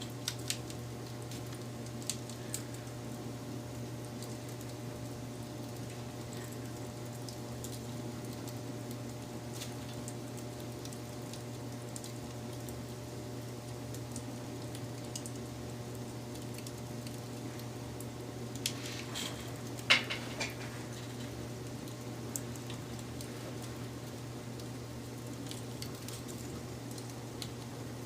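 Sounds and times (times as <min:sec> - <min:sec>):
fire popping and snapping: 0:00.0 - 0:28.0
wood fire crackling: 0:00.0 - 0:28.0.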